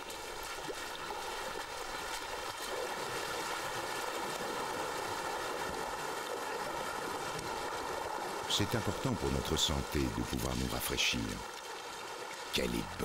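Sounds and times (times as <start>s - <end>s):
elephants wading through river water: 0.0s - 13.0s.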